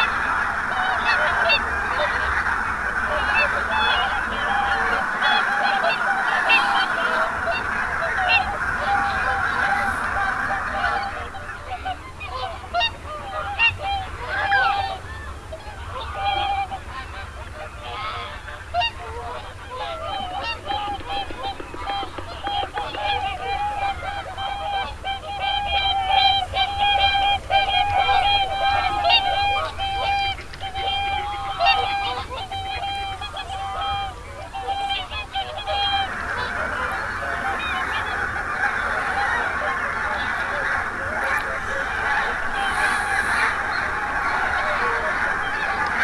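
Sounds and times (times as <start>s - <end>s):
flock of geese honking: 0.0s - 46.0s.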